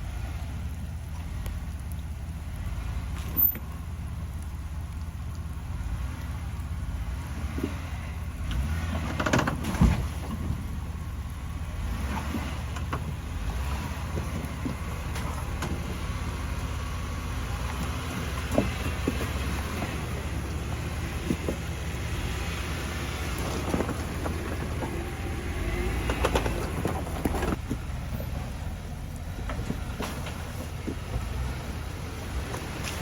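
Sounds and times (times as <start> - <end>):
rain: 0.0 - 26.8, 27.5 - 33.0
car engine running low: 0.0 - 33.0.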